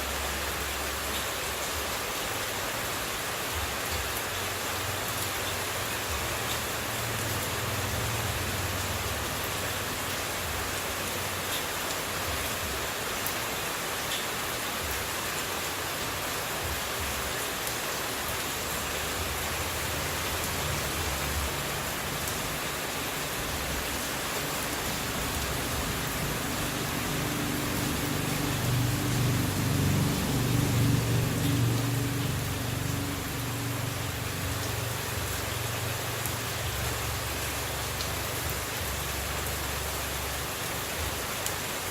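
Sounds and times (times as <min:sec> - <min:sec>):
running water hiss: 0:00.0 - 0:41.9.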